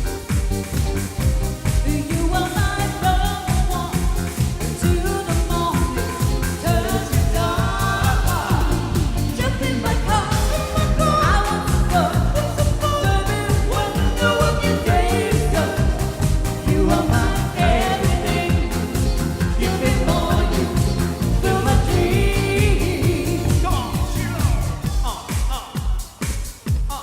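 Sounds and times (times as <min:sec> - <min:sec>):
band playing a steady beat: 0:00.0 - 0:27.0
person singing pop melody: 0:00.0 - 0:27.0.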